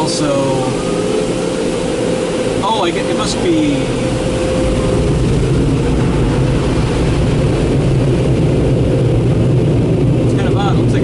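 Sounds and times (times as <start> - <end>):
car wash dryer blowers: 0.0 - 11.0
water spraying on car: 0.0 - 11.0.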